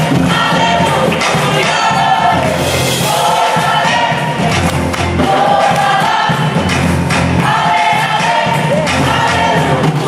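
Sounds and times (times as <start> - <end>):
choir singing gospel song: 0.0 - 10.0
drum kit steady beat: 0.0 - 10.0.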